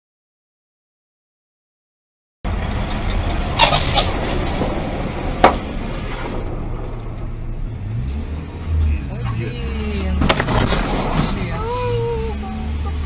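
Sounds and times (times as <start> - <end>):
vehicle road and engine rumble: 2.4 - 13.0.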